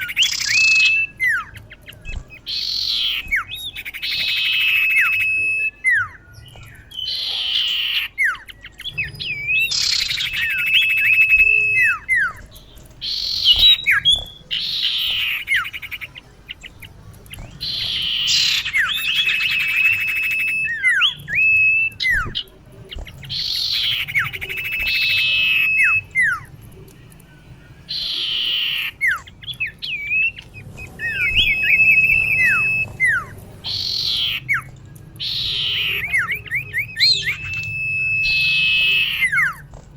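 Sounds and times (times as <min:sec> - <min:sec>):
bird calling harsh rasp and whistles: 0:00.0 - 0:26.6, 0:27.8 - 0:39.8.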